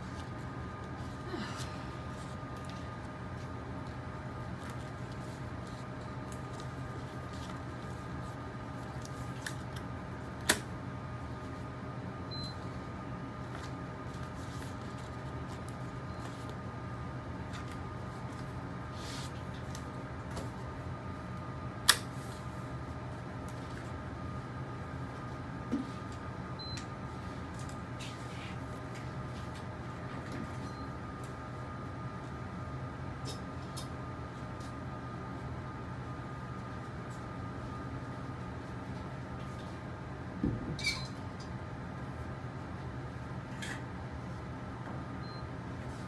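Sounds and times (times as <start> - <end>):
machine hum with high whine: 0.0 - 46.0.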